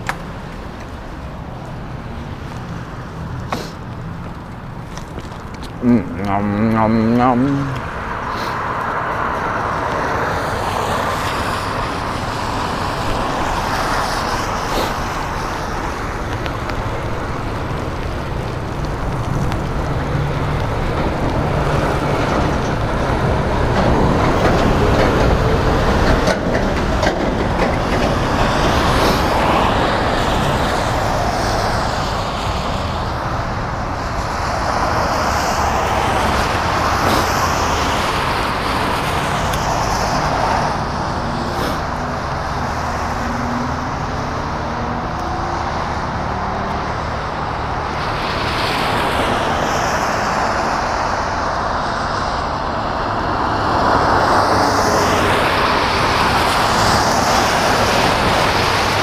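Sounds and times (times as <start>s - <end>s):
bicycle tyres on wet road: 0.0s - 59.0s
rush of wind: 0.0s - 59.0s
traffic passing on wet road: 0.0s - 59.0s.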